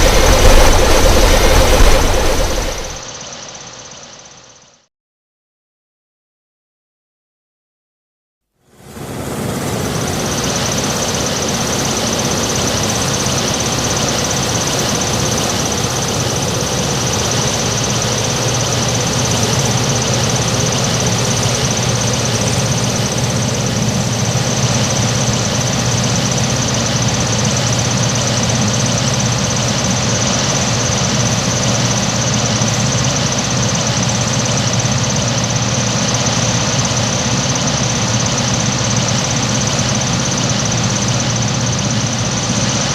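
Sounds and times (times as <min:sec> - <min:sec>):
harvester engine idling: 0:00.0 - 0:03.1, 0:08.9 - 0:42.9.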